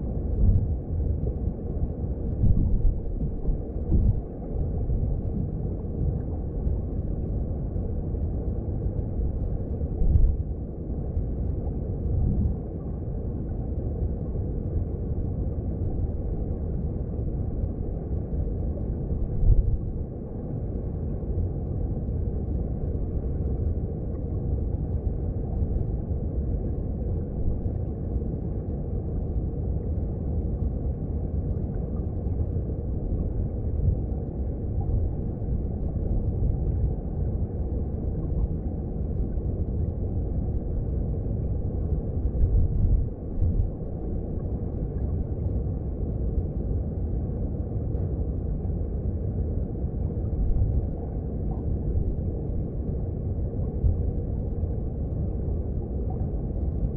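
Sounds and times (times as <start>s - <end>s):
underwater stream rumble: 0.0s - 56.9s.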